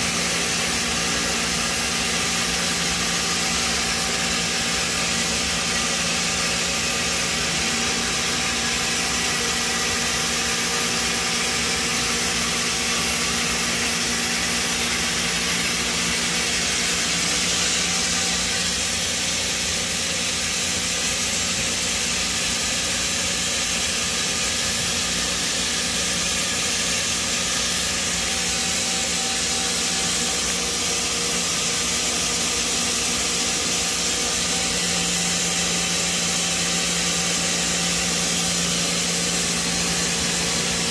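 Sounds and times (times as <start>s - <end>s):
constant machine hiss: 0.0s - 40.9s
lathe machine hum: 0.0s - 40.9s.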